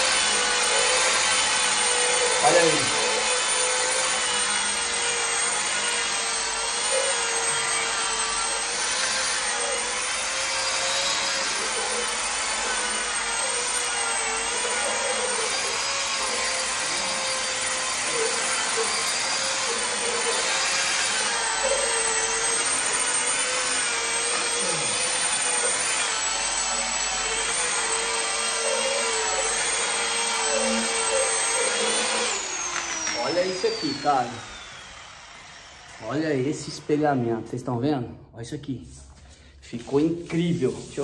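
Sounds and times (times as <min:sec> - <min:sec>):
polishing machine motor whine: 0:00.0 - 0:37.3.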